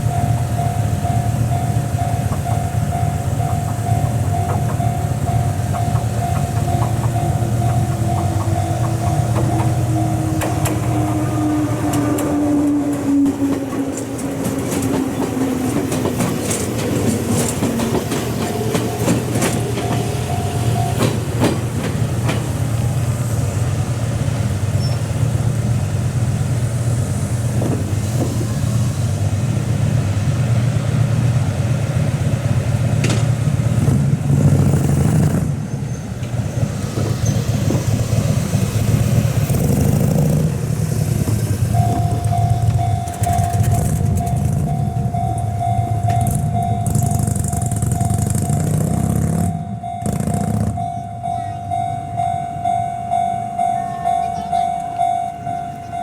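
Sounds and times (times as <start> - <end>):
electric train motor whine: 0.0 - 30.7, 36.2 - 56.0
standing train hum: 0.0 - 56.0
wheels clicking over rail joints: 0.0 - 56.0.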